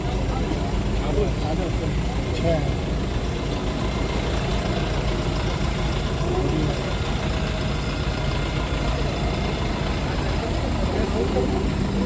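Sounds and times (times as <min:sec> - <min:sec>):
bulldozer engine running: 0:00.0 - 0:12.0.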